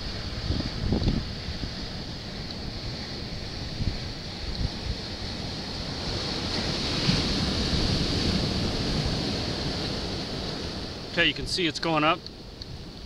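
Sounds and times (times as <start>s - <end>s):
ocean surf washing over rocks: 0.0s - 13.0s
wind buffeting microphone: 0.0s - 13.0s.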